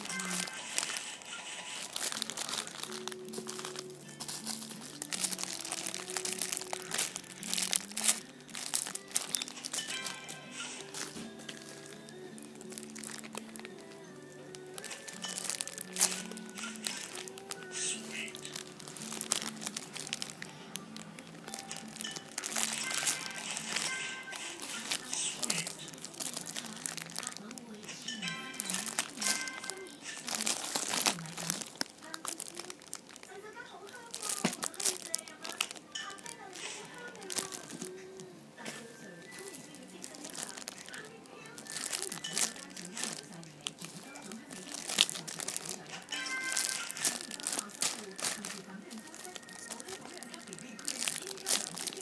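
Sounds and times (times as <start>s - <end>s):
plastic packaging bags crinkling: 0.0s - 52.0s
soft background music: 0.0s - 52.0s.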